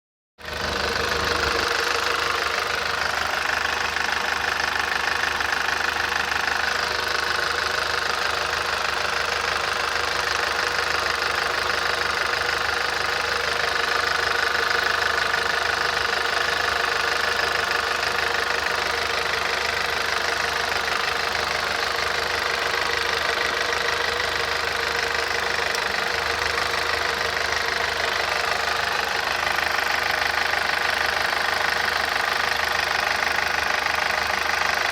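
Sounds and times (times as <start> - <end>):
car engine idling: 0.4 - 34.9
engine knocking: 0.4 - 34.9.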